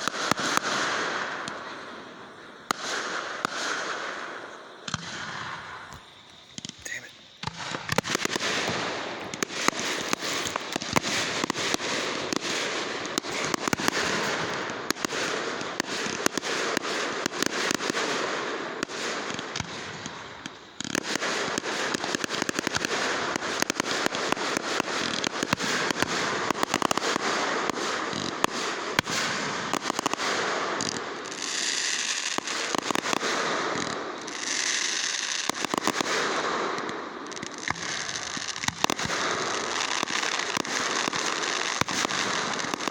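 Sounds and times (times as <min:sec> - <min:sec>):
firecrackers popping: 0:00.0 - 0:42.9.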